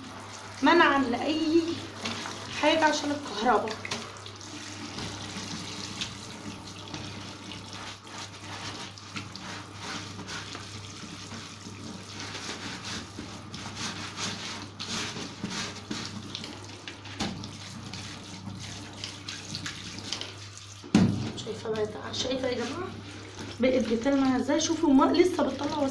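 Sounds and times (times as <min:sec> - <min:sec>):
tap water running and splashing: 0:00.0 - 0:25.9.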